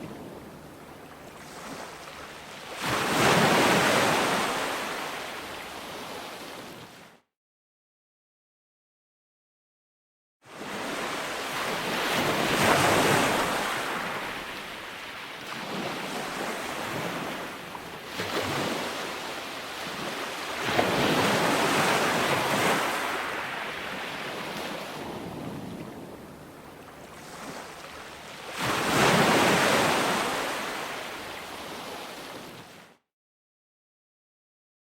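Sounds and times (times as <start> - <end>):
ocean waves on sandy beach: 0.0 - 7.2, 10.5 - 33.0
wind: 0.0 - 7.3, 10.4 - 33.0.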